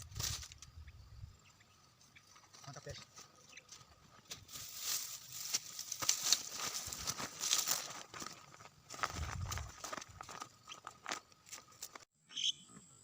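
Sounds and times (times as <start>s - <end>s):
rustling and crinkling: 0.0s - 0.8s, 2.3s - 12.1s.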